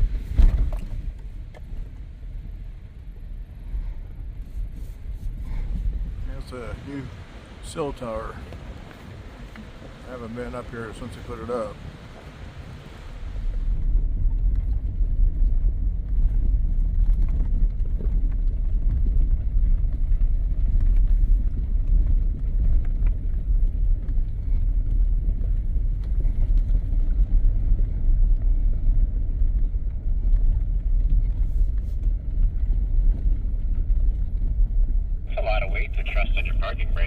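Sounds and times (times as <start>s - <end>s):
vehicle engine low rumble: 0.0s - 37.0s.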